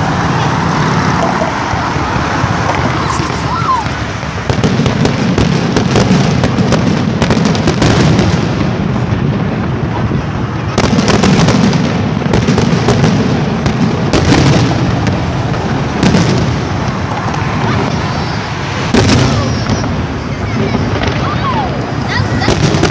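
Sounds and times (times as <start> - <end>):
fireworks crackling and banging: 0.0 - 22.9.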